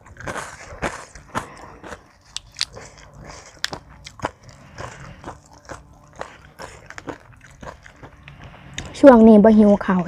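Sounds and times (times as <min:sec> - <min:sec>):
sharp crunches: 0:00.0 - 0:08.3
wet chewing: 0:00.0 - 0:09.1.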